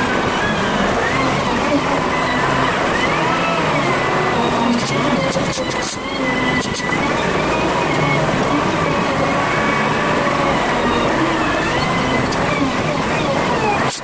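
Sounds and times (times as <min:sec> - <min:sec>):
wheel loader engine and hydraulics: 0:00.0 - 0:14.0.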